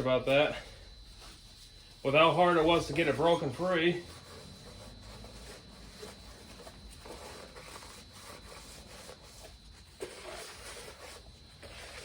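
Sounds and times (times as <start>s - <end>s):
rubbing and scraping on metal: 0.0s - 12.0s.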